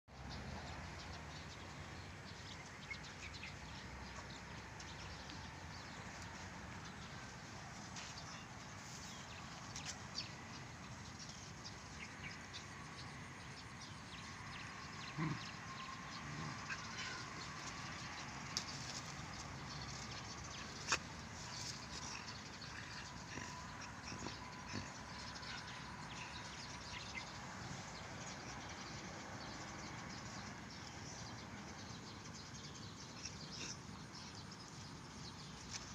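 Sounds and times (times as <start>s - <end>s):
small birds chirping: 0.1s - 35.9s.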